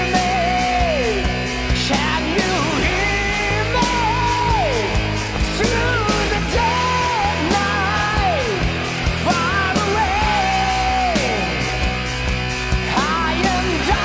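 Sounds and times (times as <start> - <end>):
rock band playing: 0.0 - 14.0
singer singing: 0.0 - 14.0.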